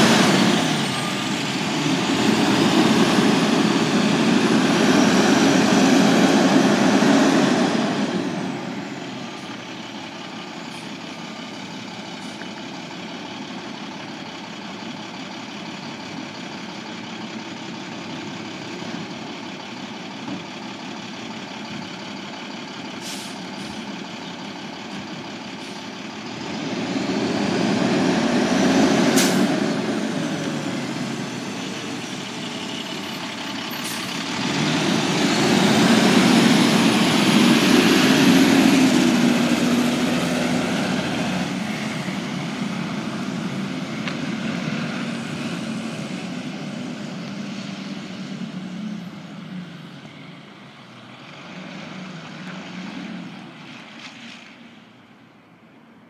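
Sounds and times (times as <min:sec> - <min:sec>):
garbage truck engine accelerating: 0:00.0 - 0:53.9.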